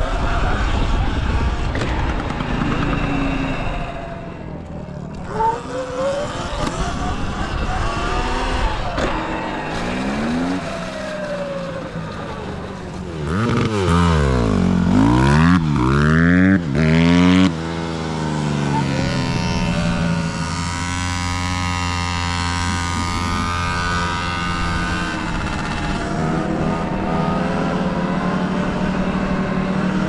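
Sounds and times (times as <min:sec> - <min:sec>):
dirt bike revving: 0:00.0 - 0:30.0.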